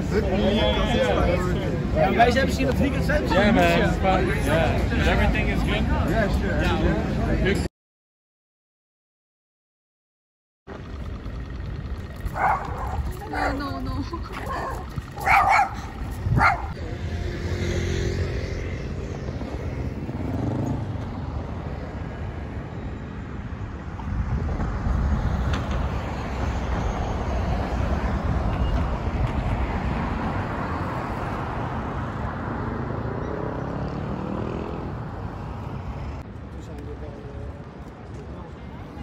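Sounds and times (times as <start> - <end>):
road traffic: 0.0 - 7.7, 10.7 - 39.0
wind: 0.0 - 7.7, 10.6 - 39.0.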